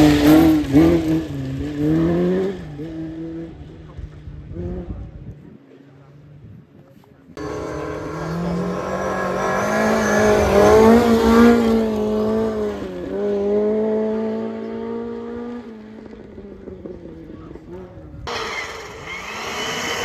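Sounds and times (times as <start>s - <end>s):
rally car engine at high revs: 0.0s - 5.2s, 7.4s - 20.0s.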